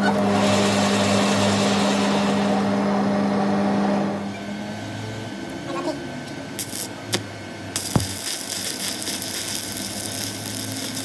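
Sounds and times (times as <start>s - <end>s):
hissing machine noise: 0.0s - 11.0s.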